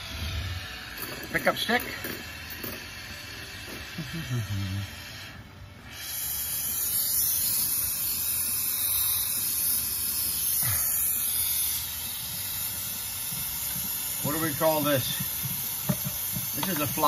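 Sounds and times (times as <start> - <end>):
gas torch flame hissing: 0.0 - 17.0.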